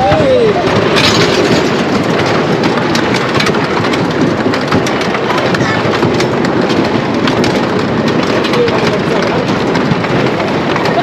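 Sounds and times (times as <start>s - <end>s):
roller coaster rumbling and clattering: 0.0s - 11.0s.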